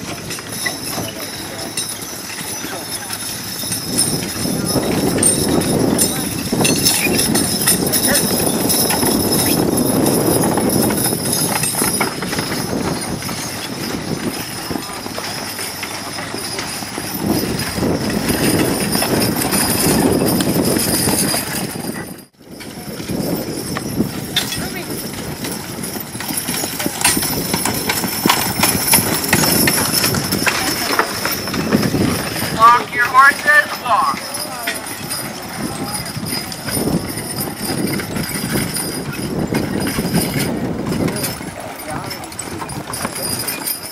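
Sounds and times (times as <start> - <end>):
harness and wagon rattling: 0.0 - 43.9
horse hooves clip-clopping: 0.0 - 43.9.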